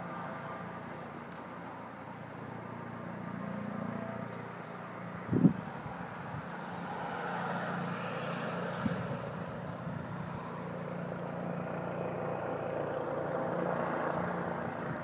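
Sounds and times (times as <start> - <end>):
distant helicopter drone: 0.0 - 15.0.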